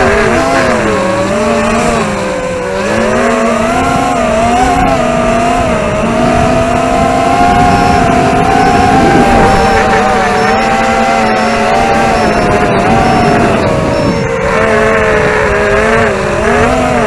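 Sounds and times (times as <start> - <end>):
quadcopter motors buzzing whine: 0.0 - 17.0.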